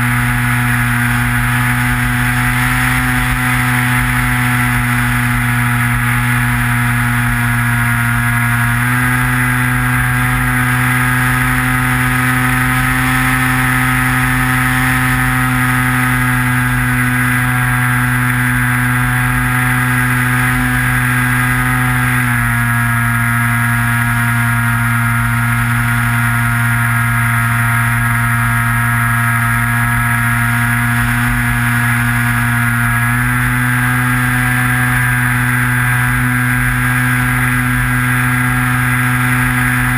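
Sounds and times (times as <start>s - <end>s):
electric motor and propeller droning: 0.0s - 39.9s.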